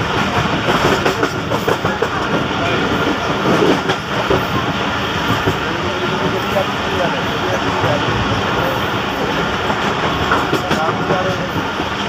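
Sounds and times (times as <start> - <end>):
train wheels clattering over rail joints: 0.0 - 6.7, 7.6 - 12.0
steady train rumble: 0.0 - 12.0.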